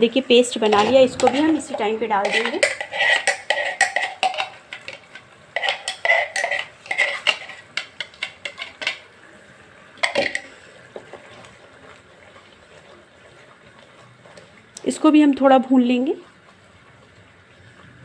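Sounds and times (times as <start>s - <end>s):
sauce bubbling in pan: 0.6s - 18.0s.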